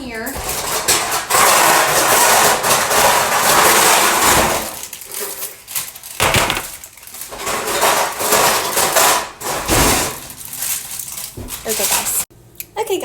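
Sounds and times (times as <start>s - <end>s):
baking pans clattering: 0.0s - 12.2s.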